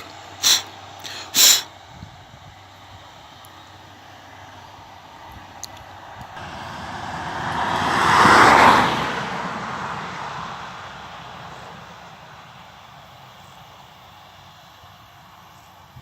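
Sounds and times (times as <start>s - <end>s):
vehicle passing by: 2.0s - 16.0s.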